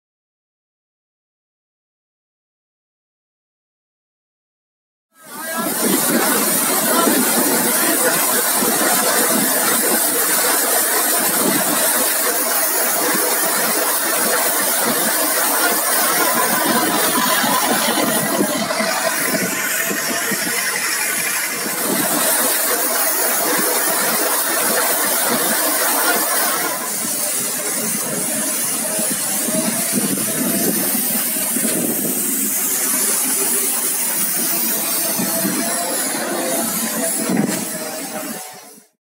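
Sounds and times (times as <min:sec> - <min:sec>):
engine and sweeper brush: 0:05.4 - 0:38.8.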